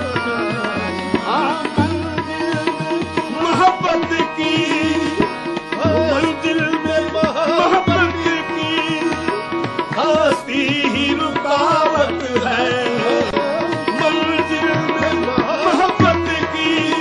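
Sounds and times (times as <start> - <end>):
harmonium: 0.0 - 17.0
tabla rhythm: 0.0 - 17.0
wordless singing: 0.0 - 17.0.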